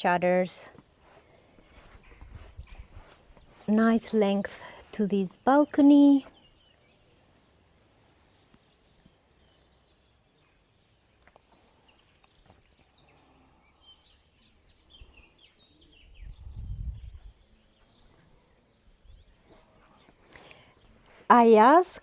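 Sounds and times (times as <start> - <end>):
faint bird chirps: 0.7 - 3.7, 6.2 - 21.0.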